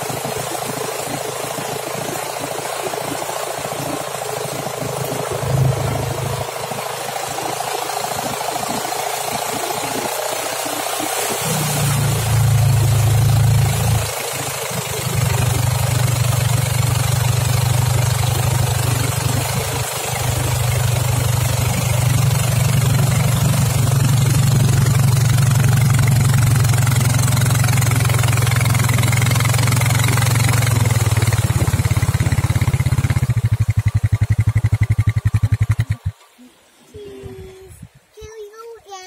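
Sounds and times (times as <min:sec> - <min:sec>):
motorboat engine running: 0:00.0 - 0:36.6
water rushing: 0:00.0 - 0:39.0.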